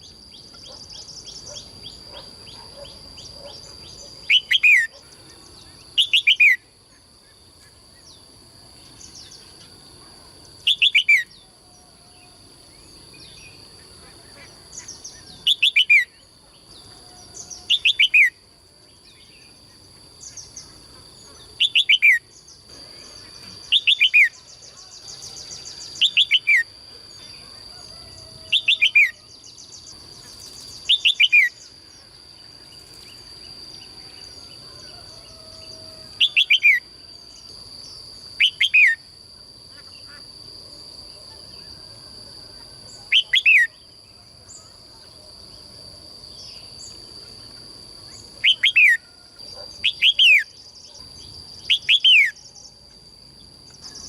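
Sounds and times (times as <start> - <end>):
songbird calling: 0.0 - 39.1, 42.5 - 45.2, 46.3 - 52.8.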